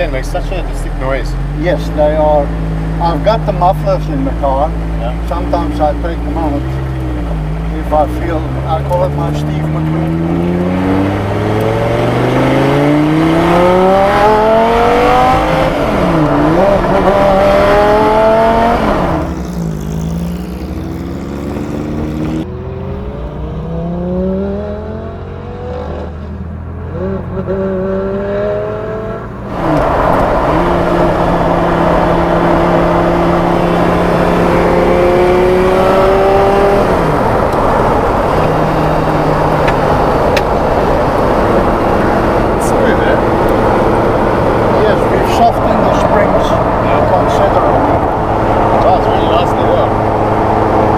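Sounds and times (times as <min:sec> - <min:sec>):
race car engine accelerating: 0:00.1 - 0:50.9.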